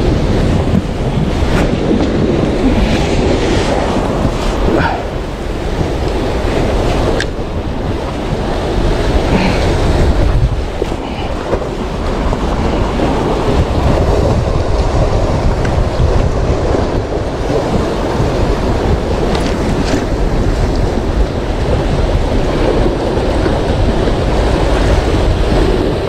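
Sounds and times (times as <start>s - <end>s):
sea waves washing in: 0.0s - 26.0s
wind buffeting microphone: 0.0s - 26.0s.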